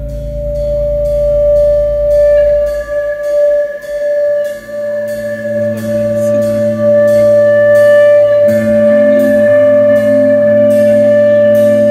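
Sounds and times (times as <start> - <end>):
cymbal strokes: 0.0 - 11.9
sustained electric guitar chords: 0.0 - 11.9.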